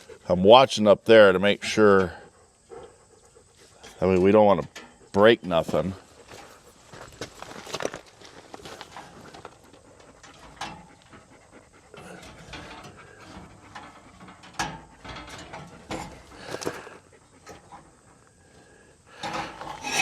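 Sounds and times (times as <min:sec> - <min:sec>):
panting breaths: 0:00.0 - 0:00.3, 0:01.7 - 0:04.0, 0:05.8 - 0:20.0.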